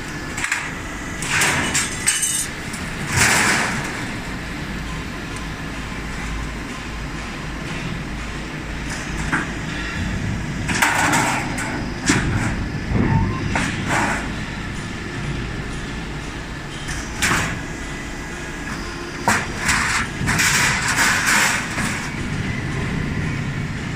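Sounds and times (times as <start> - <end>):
machine humming: 0.0 - 23.9.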